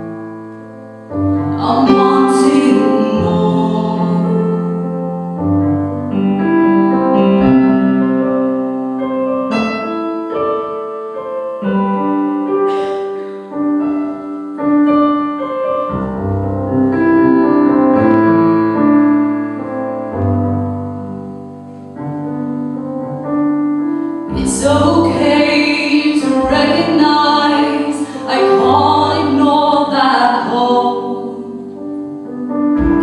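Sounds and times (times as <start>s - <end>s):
piano playing chords and melody: 0.0s - 33.0s.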